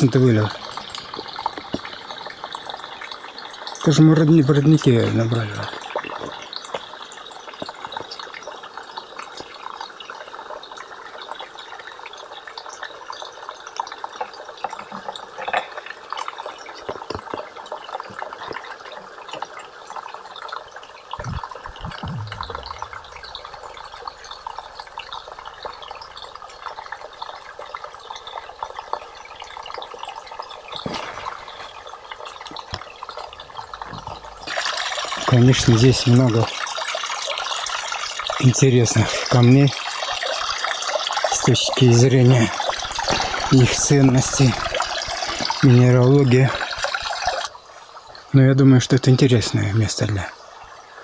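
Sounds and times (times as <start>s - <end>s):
stream water trickling: 0.0s - 51.0s.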